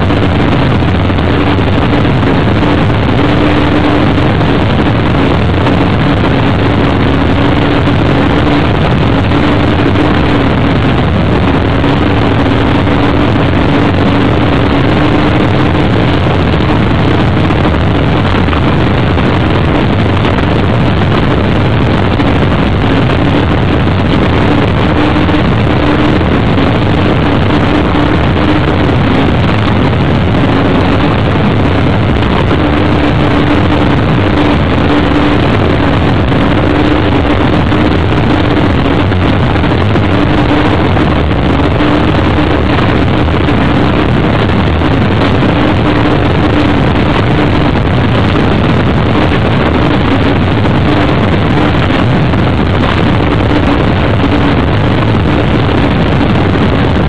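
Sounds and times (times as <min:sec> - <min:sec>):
powerboat engines droning: 0:00.0 - 0:51.5
rushing wind and water: 0:00.0 - 0:57.0.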